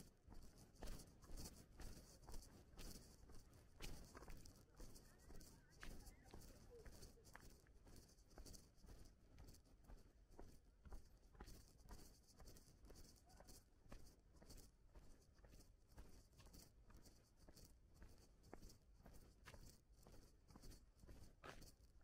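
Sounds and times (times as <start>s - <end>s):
faint footsteps: 0.0s - 22.0s.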